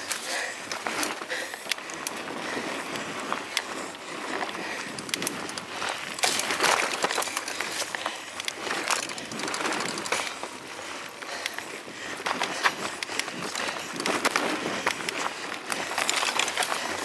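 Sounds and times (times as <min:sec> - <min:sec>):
bike rattling over bumps: 0:00.0 - 0:17.0
bike tyres on dirt trail: 0:00.0 - 0:17.0.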